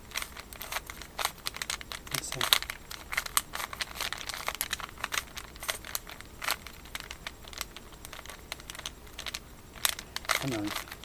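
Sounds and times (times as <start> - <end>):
puzzle cube clicking and rattling: 0.0 - 11.0.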